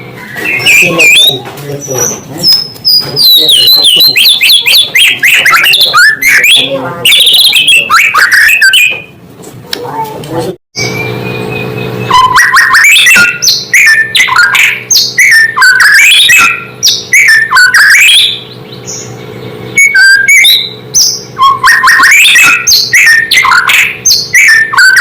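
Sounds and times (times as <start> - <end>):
bird singing whistles and chirps: 0.2 - 9.1, 10.8 - 25.0.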